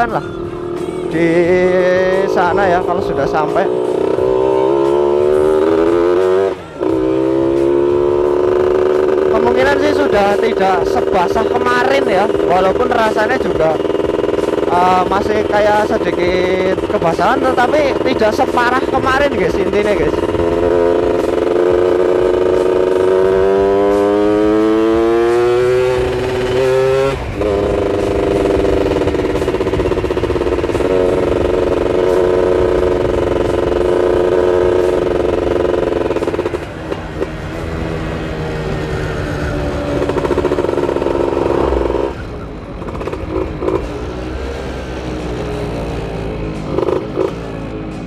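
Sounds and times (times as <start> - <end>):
two-stroke motorcycle engine: 0.0 - 48.0.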